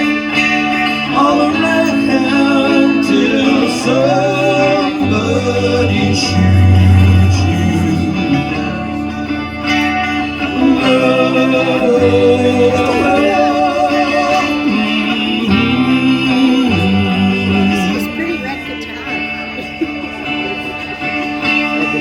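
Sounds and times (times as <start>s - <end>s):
guitar rock ballad: 0.0s - 22.0s.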